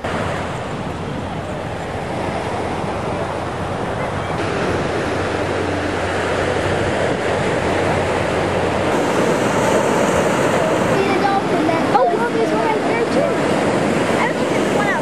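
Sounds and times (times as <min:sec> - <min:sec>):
waves breaking on beach: 0:00.0 - 0:15.0
wind on microphone: 0:00.0 - 0:15.0.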